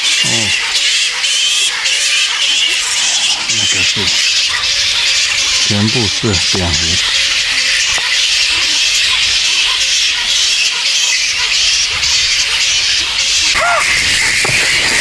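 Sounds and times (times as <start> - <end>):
bats chattering and squealing: 0.0 - 15.0
rising and falling squawk: 0.0 - 15.0.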